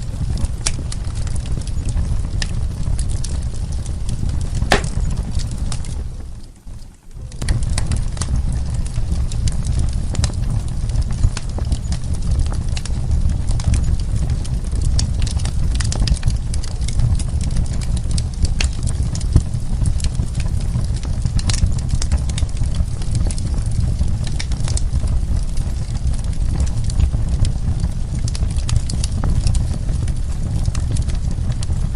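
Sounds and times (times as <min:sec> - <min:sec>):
low rumble of flames: 0:00.0 - 0:31.9
wood fire crackling and popping: 0:00.0 - 0:31.9.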